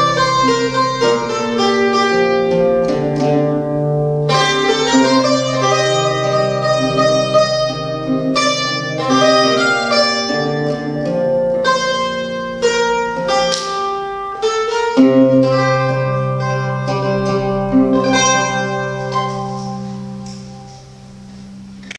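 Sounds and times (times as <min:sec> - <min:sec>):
lute and mandolin folk tune: 0:00.0 - 0:21.9.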